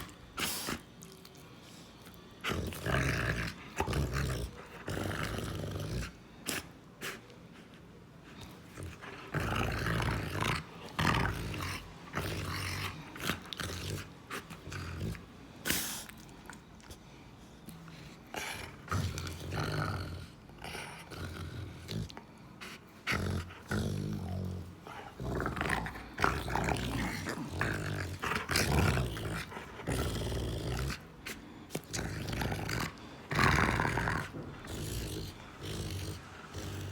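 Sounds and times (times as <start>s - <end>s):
dog growling: 2.4s - 6.7s, 8.3s - 16.2s, 18.2s - 36.9s.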